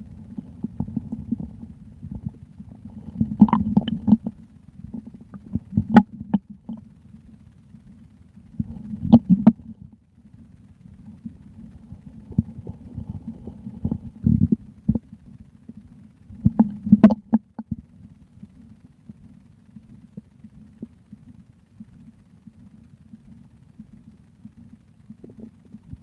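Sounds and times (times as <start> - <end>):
stomach gurgling and rumbling: 0.0 - 26.0.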